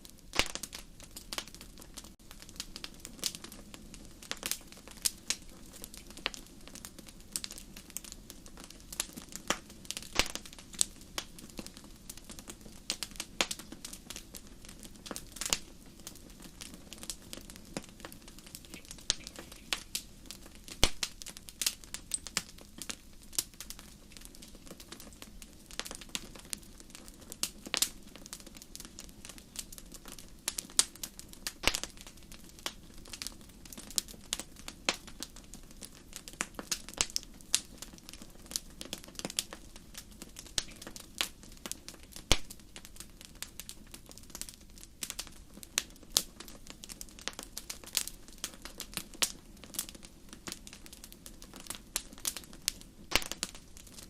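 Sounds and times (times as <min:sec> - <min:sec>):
low rush of burning fire: 0:00.0 - 0:54.0
campfire pops and snaps: 0:00.1 - 0:54.0.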